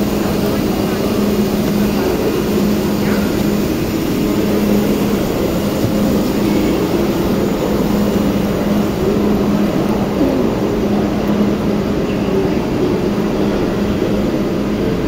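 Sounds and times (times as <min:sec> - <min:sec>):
train rumbling with low hum: 0:00.0 - 0:15.0.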